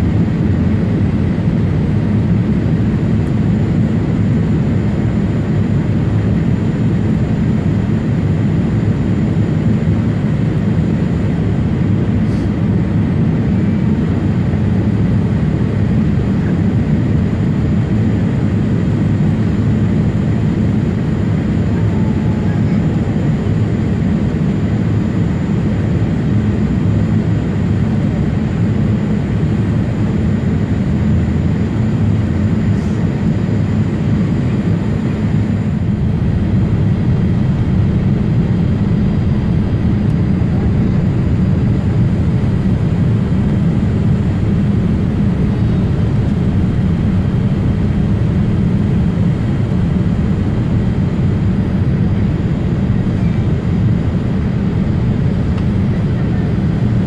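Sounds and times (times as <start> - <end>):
jet engines rumbling: 0.0 - 57.0
rushing airflow in cabin: 0.0 - 57.0.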